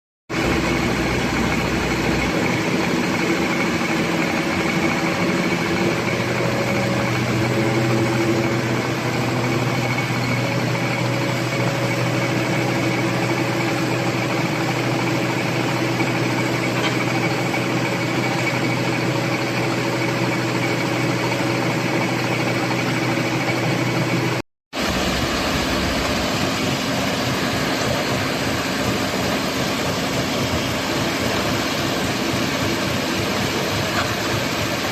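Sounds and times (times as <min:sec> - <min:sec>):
pump engine droning: 0:00.3 - 0:34.9.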